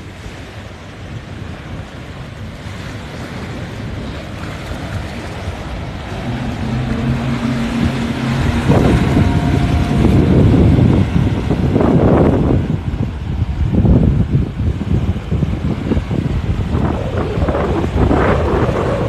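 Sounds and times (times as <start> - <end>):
motorboat engine hum: 0.0 - 19.0
wind buffeting microphone: 0.0 - 19.0.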